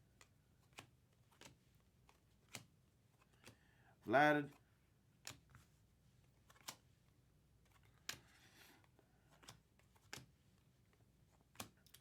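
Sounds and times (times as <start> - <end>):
cards being flipped by hand: 0.1 - 3.6, 5.2 - 12.0.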